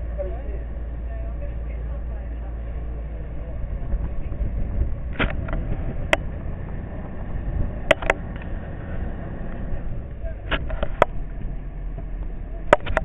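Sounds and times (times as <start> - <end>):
motorboat engine rumble: 0.0 - 13.0.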